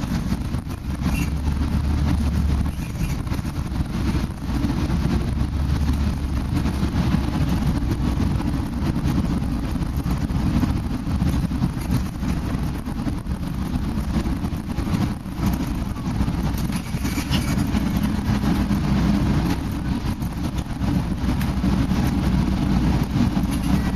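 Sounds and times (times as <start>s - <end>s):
bus engine and road rumble: 0.0s - 23.9s.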